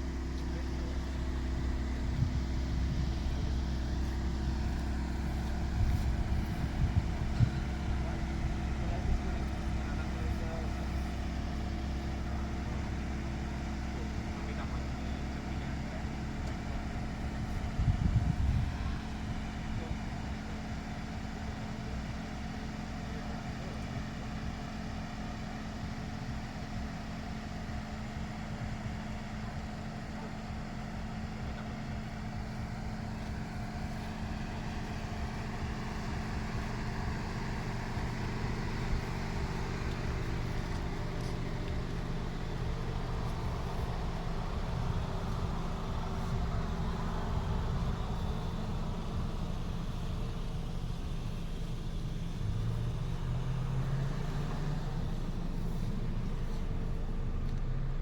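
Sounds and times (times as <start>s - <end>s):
car engine and road hum: 0.0s - 58.0s.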